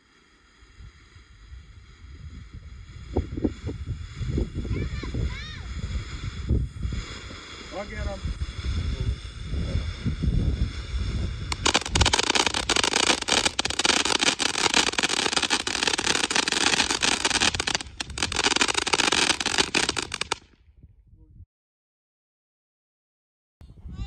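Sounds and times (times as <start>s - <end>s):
firework whistle: 0.0s - 20.5s
firework crackling: 0.0s - 20.6s.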